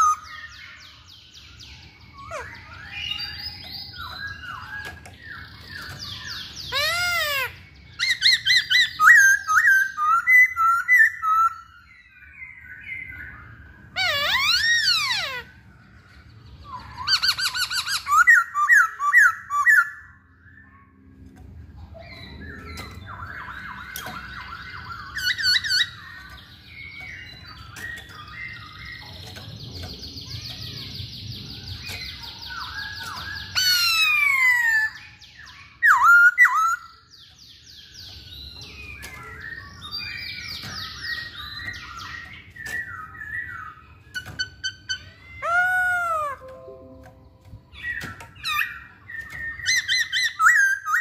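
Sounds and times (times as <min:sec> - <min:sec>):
bird singing whistles and chatter: 0:00.0 - 0:46.7, 0:47.7 - 0:51.0.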